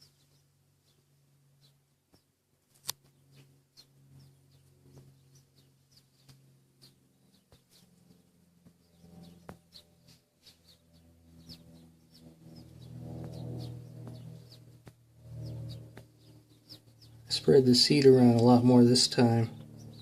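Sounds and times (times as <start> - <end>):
low steady hum: 0.0 - 20.0
small birds chirping: 0.0 - 20.0.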